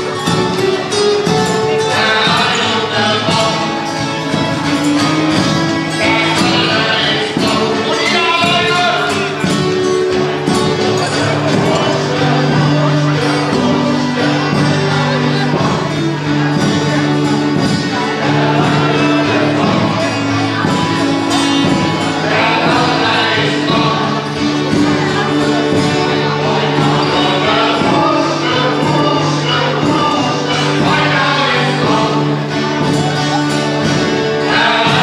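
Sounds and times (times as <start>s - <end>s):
audience singing along: 0.0s - 35.0s
live band playing: 0.0s - 35.0s
person singing: 0.0s - 35.0s.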